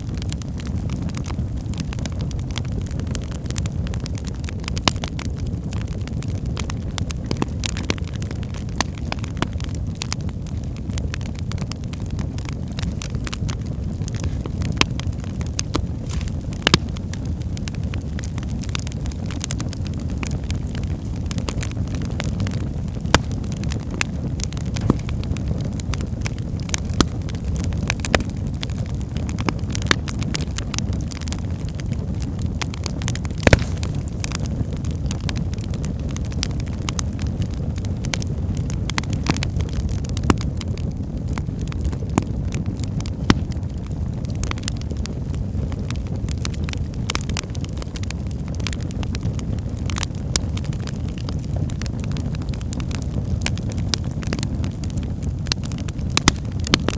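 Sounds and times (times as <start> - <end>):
fireplace flames rumbling: 0.0 - 56.9
logs crackling and popping: 0.0 - 56.9.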